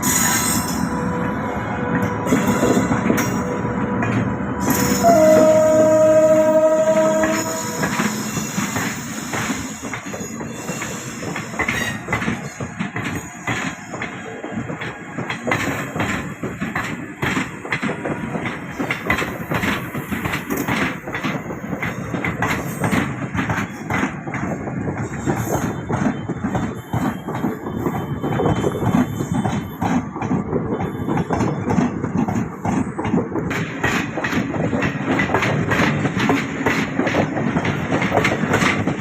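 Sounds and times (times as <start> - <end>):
train rumbling along track: 0.0 - 39.0
wheels clicking over rail joints: 2.0 - 39.0.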